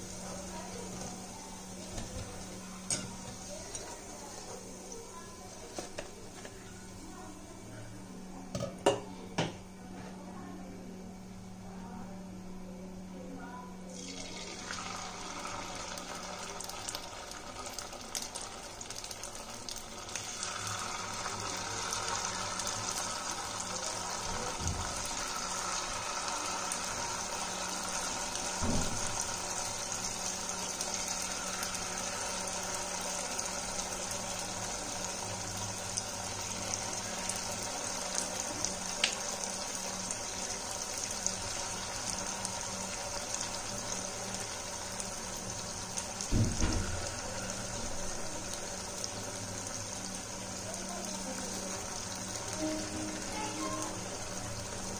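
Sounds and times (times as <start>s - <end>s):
potatoes deep-frying in oil: 0.0s - 9.2s, 13.4s - 54.9s.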